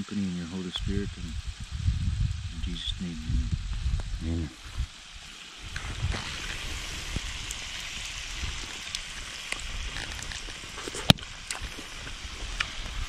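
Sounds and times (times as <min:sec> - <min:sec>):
meat sizzling in a skillet: 0:00.8 - 0:13.0.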